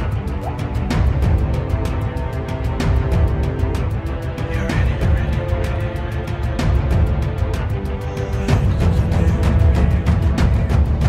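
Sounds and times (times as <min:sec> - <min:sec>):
music with fast beat: 0:00.0 - 0:11.0.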